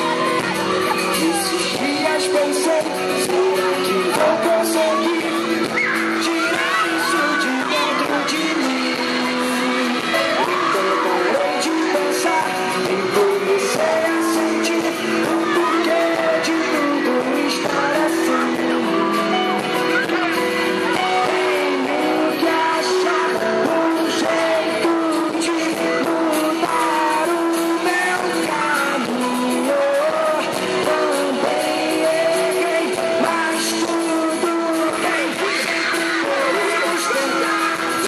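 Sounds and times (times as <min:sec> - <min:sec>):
pop-rock song with singing: 0:00.0 - 0:38.0.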